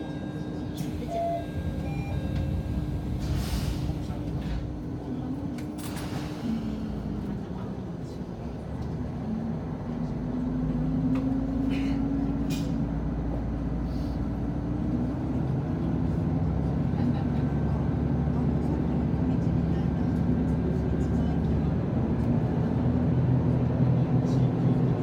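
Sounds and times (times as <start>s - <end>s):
diesel railcar engine humming: 0.0s - 25.0s.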